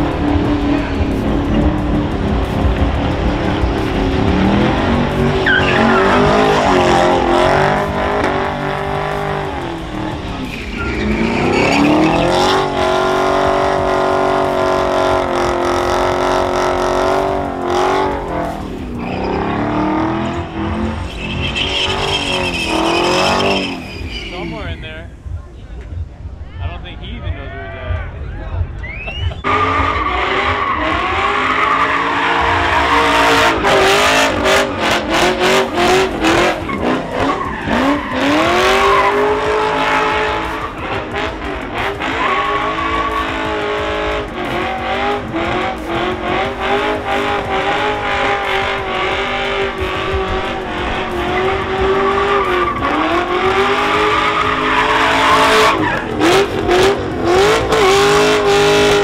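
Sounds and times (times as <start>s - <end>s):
car engine revving: 0.0s - 26.2s, 28.6s - 59.0s
tire squeal: 3.8s - 25.0s, 28.8s - 59.0s.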